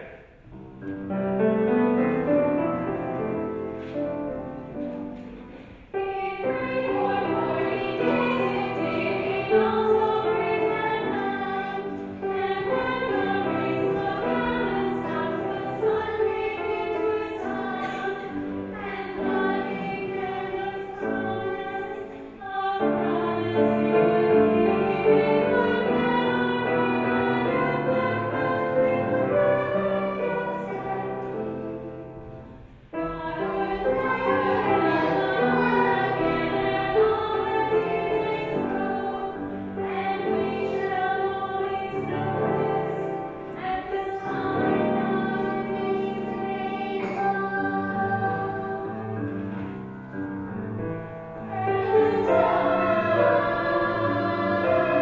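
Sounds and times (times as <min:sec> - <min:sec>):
children's choir singing: 0:00.0 - 0:55.0
musical accompaniment: 0:00.0 - 0:55.0.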